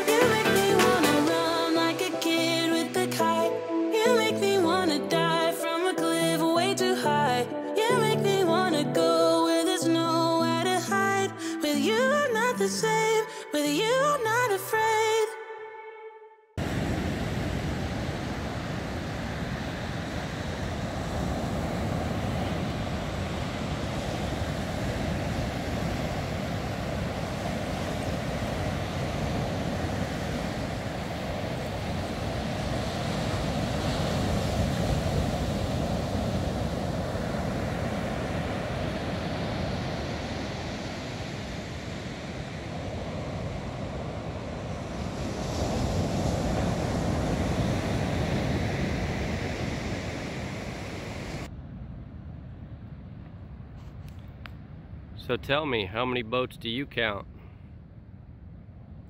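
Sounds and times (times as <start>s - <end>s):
ocean surf breaking: 0.0s - 15.2s, 16.6s - 51.5s.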